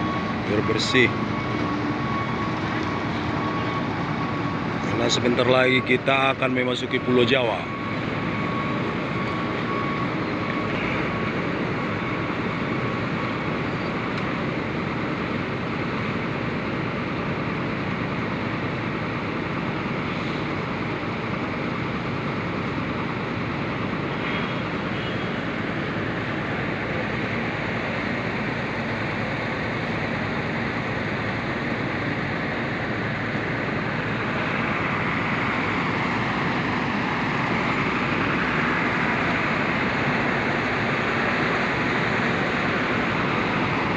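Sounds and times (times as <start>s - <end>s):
engine drone: 0.0s - 43.9s.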